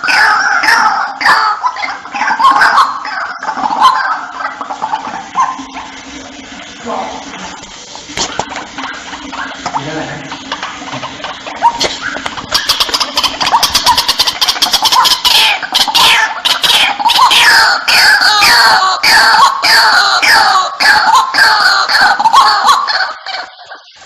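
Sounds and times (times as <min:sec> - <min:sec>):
waterhen croaking calls: 0:00.0 - 0:24.0.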